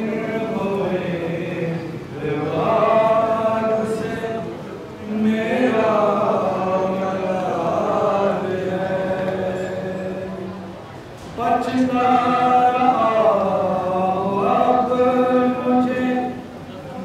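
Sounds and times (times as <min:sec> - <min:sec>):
voices chanting devotional song: 0:00.0 - 0:17.0.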